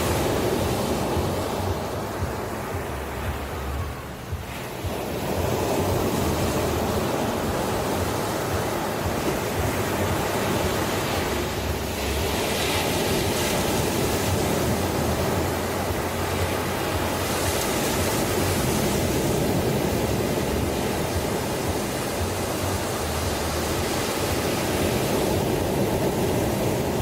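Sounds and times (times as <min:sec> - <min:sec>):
ocean waves breaking on shore: 0:00.0 - 0:27.0.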